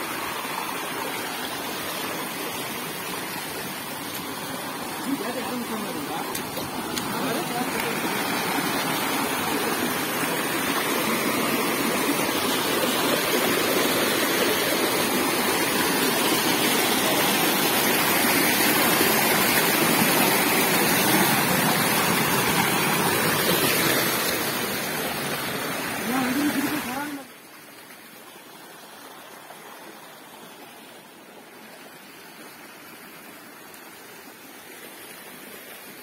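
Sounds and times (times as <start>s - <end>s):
stream rushing over boulders: 0.0s - 36.0s.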